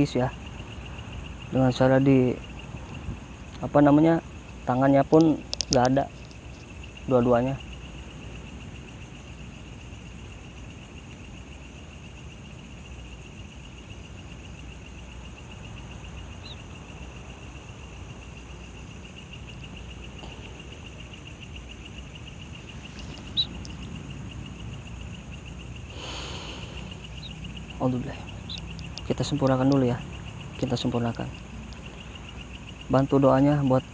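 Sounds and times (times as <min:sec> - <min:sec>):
low background hiss: 0:00.0 - 0:33.9
night insects trilling: 0:00.0 - 0:33.9.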